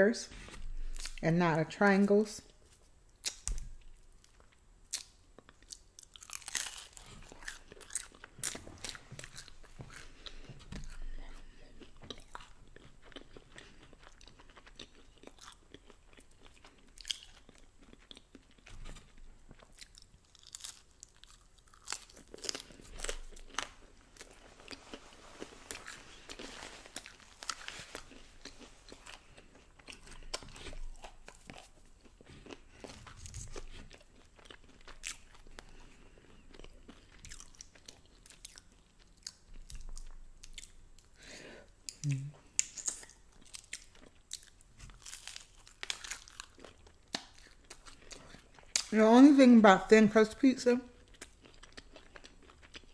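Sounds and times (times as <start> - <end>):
wet chewing: 3.1 - 41.2, 41.8 - 48.9, 51.0 - 52.9.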